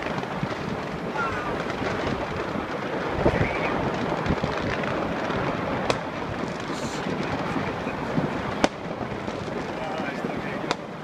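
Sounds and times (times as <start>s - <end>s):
distant fireworks rumbling: 0.0s - 11.0s
sharp firework pops: 0.0s - 11.0s.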